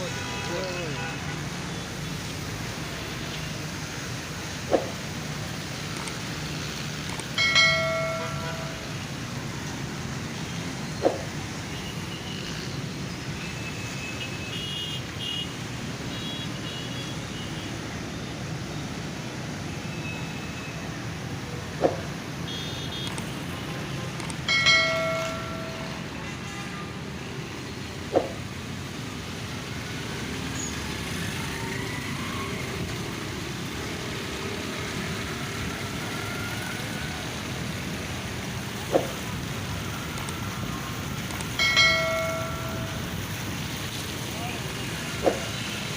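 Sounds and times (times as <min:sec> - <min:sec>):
traffic rumble: 0:00.0 - 0:45.9.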